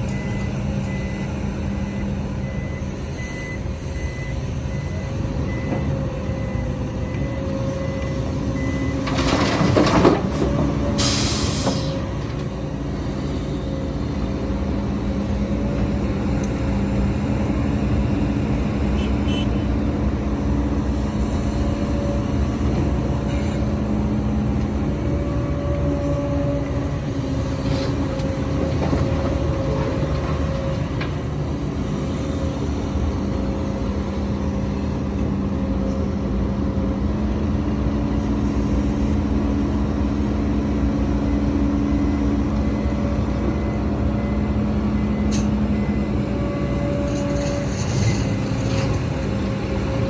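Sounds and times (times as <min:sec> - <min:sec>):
heavy diesel machinery droning: 0:00.0 - 0:50.0.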